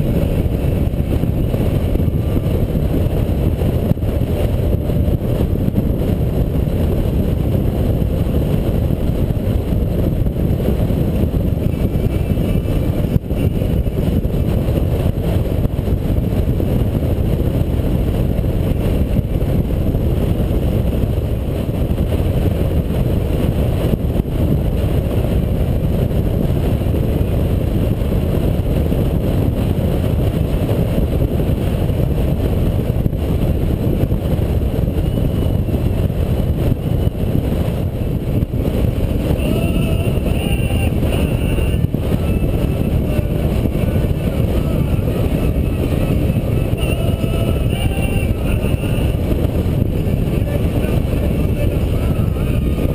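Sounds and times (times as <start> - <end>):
motorcycle engine drone: 0.0 - 52.9
wind rush on microphone: 0.0 - 52.9.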